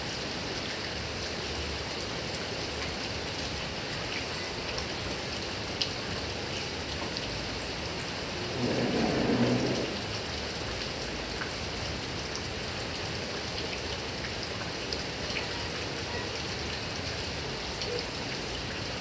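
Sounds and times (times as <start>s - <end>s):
heavy rain on grass and trees: 0.0s - 19.0s.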